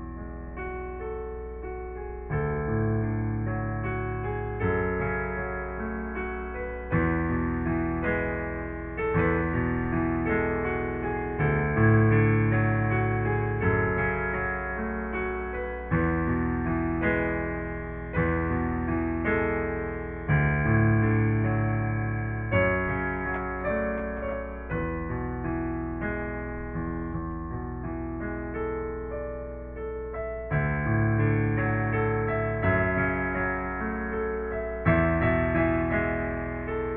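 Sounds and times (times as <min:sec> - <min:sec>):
piano playing slow chords: 0:00.0 - 0:36.9.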